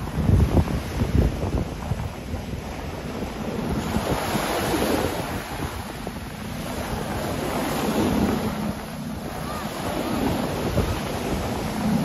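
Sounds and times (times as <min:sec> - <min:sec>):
small waves breaking on sand: 0:00.0 - 0:12.0
wind buffeting microphone: 0:00.0 - 0:12.0.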